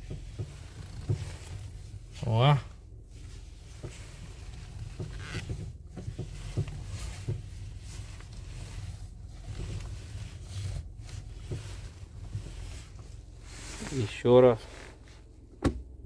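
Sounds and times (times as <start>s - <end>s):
car engine idling: 0.0s - 16.0s
steering creaks: 0.0s - 16.0s.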